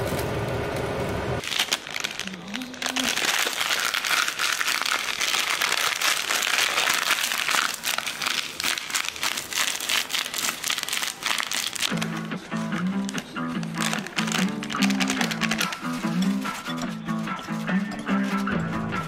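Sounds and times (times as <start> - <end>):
plastic pouch crinkling: 1.4 - 17.0.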